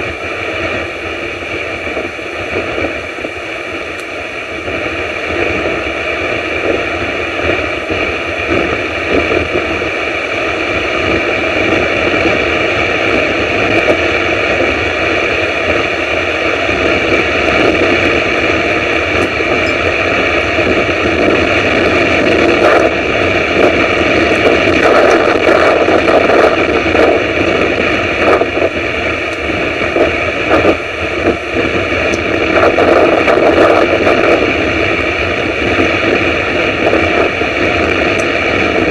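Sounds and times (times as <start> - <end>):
storm wind and rain on microphone: 0.0 - 38.9.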